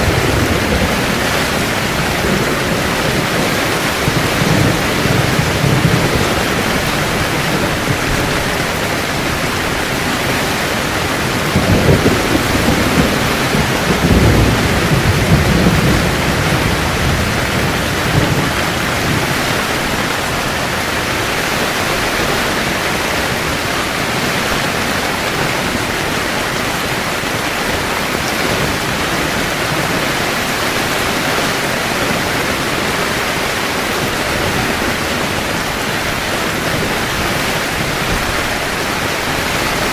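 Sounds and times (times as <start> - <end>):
heavy rain on a tent: 0.0 - 39.9
thunder rumbling: 0.0 - 39.9.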